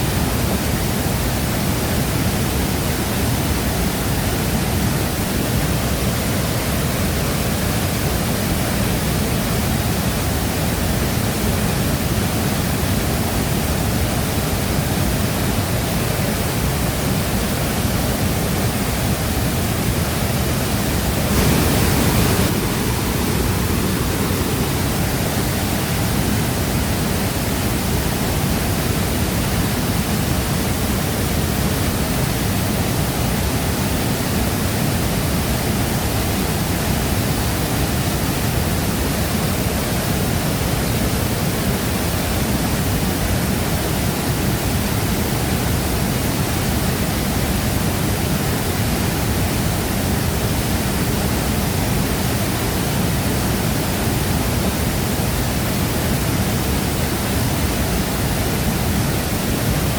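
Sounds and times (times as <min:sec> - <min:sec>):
waterfall crashing: 0:00.0 - 0:59.9.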